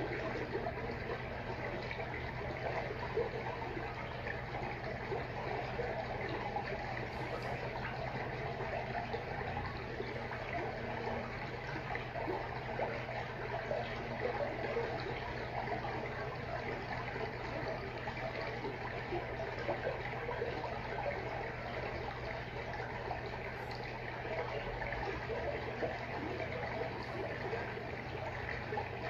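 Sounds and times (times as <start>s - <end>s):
aquarium water bubbling: 0.0s - 29.0s.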